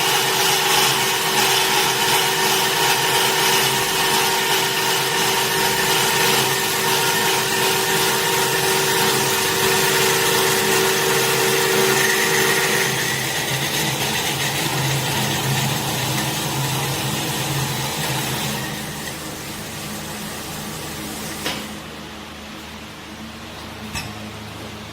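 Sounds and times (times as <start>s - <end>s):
saw machine drone: 0.0s - 21.6s.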